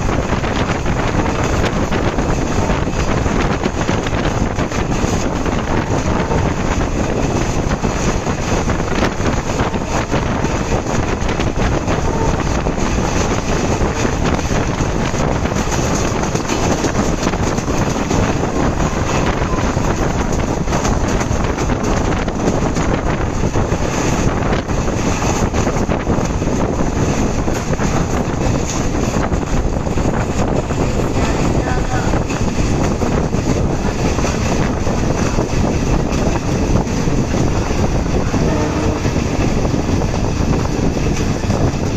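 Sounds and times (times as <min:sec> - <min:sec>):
train rushing: 0:00.0 - 0:41.9
wind buffeting microphone: 0:00.0 - 0:41.9.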